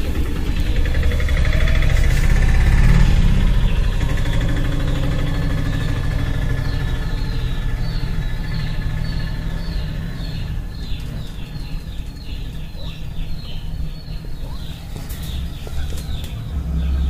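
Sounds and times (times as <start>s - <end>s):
auto-rickshaw engine idling: 0.0s - 17.0s.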